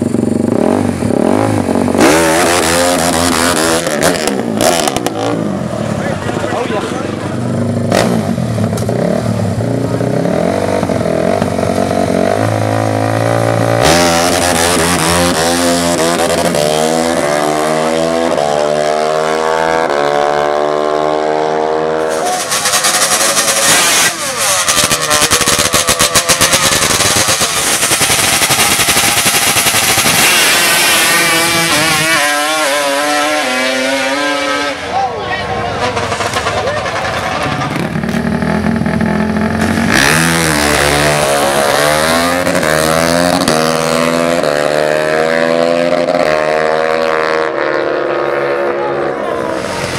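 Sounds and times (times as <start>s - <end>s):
high-revving drag racing engines: 0.0s - 49.9s.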